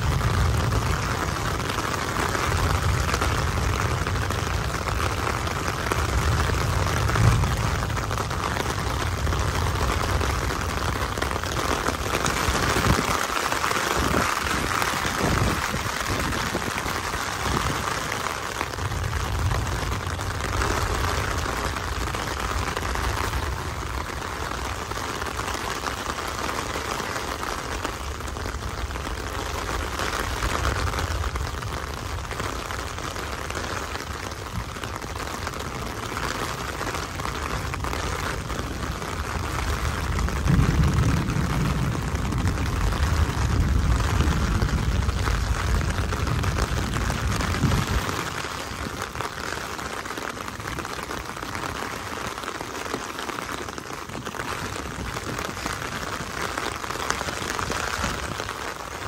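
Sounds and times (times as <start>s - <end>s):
heavy rain on dirt road: 0.0s - 59.0s.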